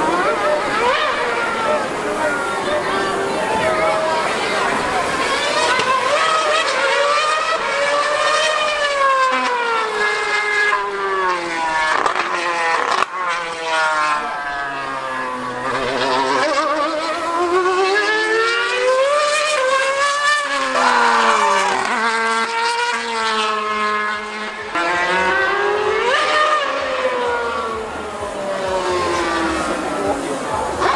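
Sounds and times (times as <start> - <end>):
racing car engine screaming: 0.0 - 30.9.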